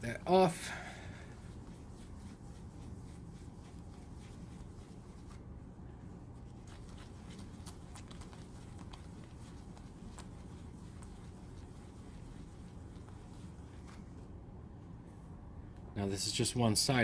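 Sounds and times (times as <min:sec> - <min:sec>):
cloth rag rubbing plastic: 0:00.0 - 0:14.4.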